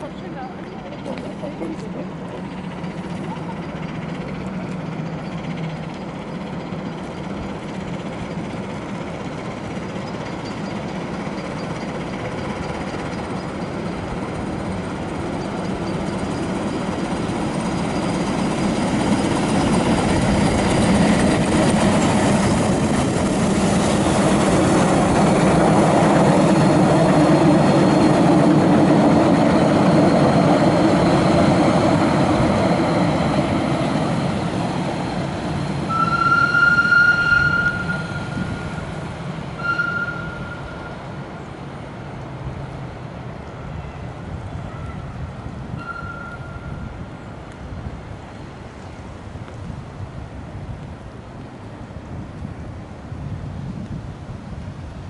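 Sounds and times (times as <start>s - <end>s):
carriages rolling on track: 0.0s - 54.9s
steam locomotive passing: 0.0s - 55.0s.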